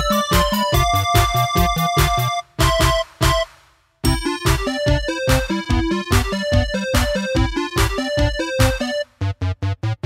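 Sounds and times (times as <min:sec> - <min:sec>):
music with steady beat and melody: 0:00.0 - 0:10.0.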